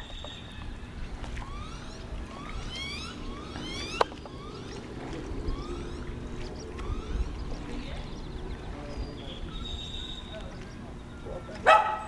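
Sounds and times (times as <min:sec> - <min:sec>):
bird whistling calls: 0:00.0 - 0:11.6
water and paddle noise: 0:00.0 - 0:12.0.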